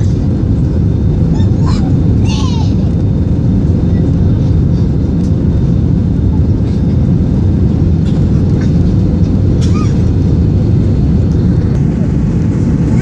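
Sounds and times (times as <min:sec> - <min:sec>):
airliner engines rumbling: 0:00.0 - 0:13.0
rushing air: 0:00.0 - 0:13.0.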